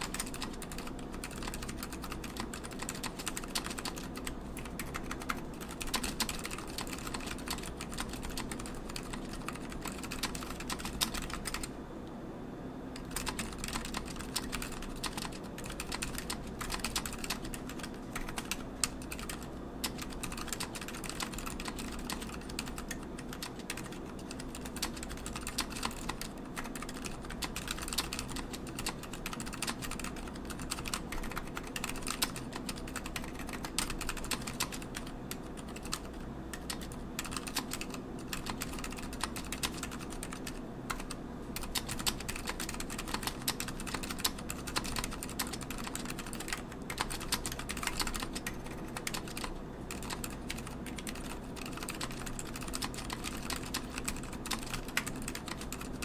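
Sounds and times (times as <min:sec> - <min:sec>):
mechanical keyboard typing: 0:00.0 - 0:11.7, 0:13.0 - 0:56.0.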